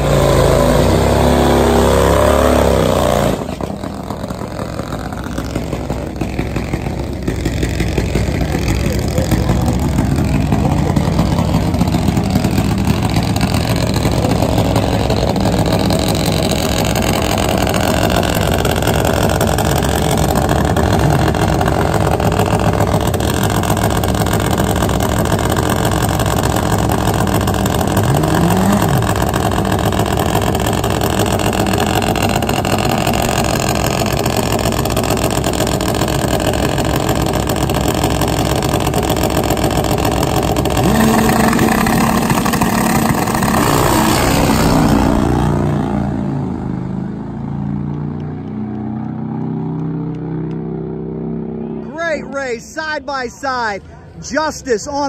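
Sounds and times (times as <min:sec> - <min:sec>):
drag bike engines running: 0:00.0 - 0:55.0.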